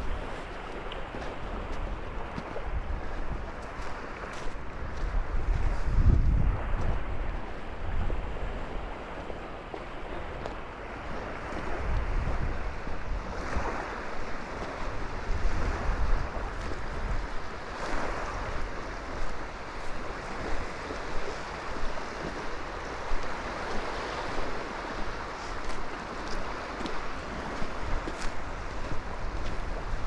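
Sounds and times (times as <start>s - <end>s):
small waves washing on shore: 0.0s - 30.0s
wind buffeting microphone: 0.0s - 30.0s.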